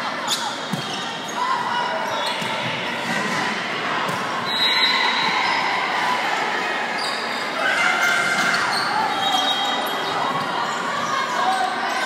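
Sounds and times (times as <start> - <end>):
chatter and calls of people: 0.0 - 12.0.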